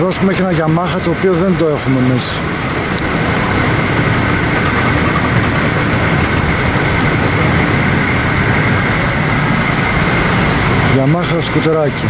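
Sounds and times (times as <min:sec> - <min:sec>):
constant high whine: 0:00.0 - 0:12.0
machine running: 0:00.7 - 0:12.0.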